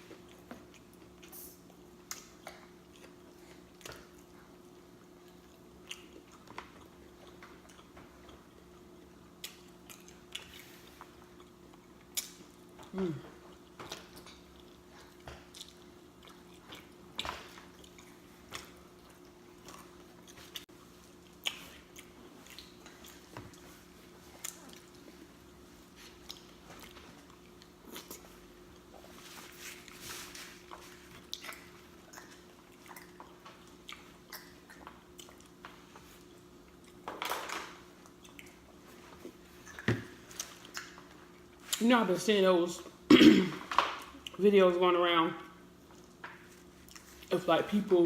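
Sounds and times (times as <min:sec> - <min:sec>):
faint steady hum: 0:00.0 - 0:48.0
person chewing and lip smacking: 0:00.1 - 0:30.0, 0:30.6 - 0:37.1, 0:37.9 - 0:41.8, 0:45.9 - 0:47.3.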